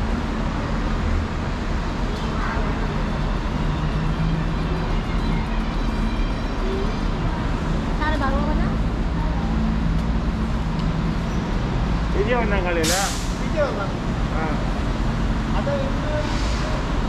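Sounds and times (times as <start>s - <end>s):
engines humming: 0.0s - 17.0s
road traffic noise: 0.0s - 17.0s.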